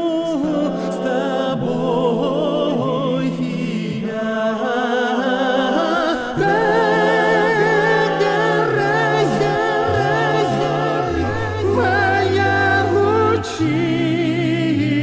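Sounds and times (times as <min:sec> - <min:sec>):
voices singing in harmony: 0:00.0 - 0:15.0.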